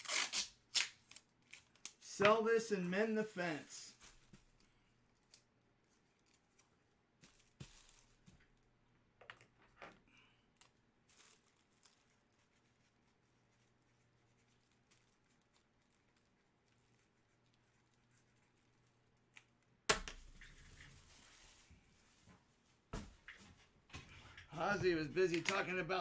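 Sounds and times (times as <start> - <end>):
faint room hum: 0.0 - 26.0
trading cards in plastic holders handled: 0.1 - 2.4, 3.9 - 22.2, 24.4 - 26.0.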